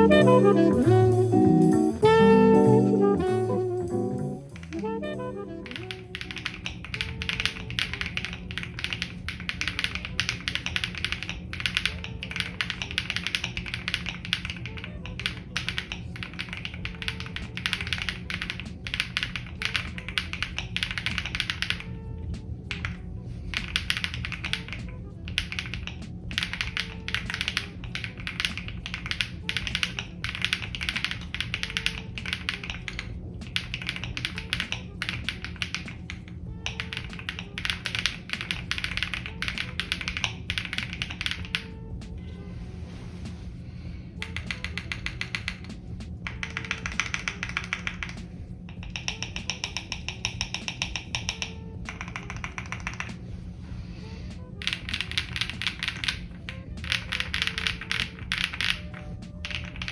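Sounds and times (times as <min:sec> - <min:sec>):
music: 0:00.0 - 0:59.9
fast typing on mechanical keyboard: 0:05.6 - 0:41.7, 0:44.2 - 0:53.2, 0:54.5 - 0:59.9.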